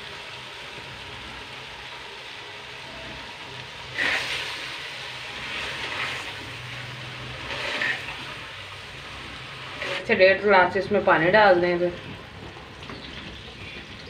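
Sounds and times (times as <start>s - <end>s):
pot hissing on stove: 0.0s - 14.0s.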